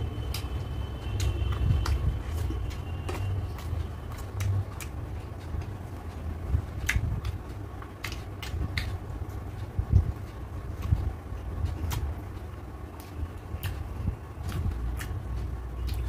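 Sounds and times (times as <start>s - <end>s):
steady low rumble: 0.0s - 16.0s
chewing mouth clicks and smacks: 0.2s - 12.1s, 13.0s - 16.0s.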